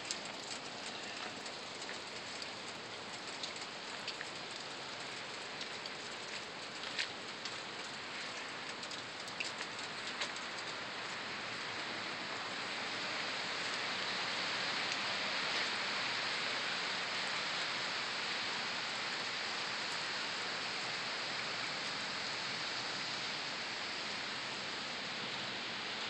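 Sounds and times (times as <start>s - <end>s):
rain on water and pavement: 0.0s - 26.0s.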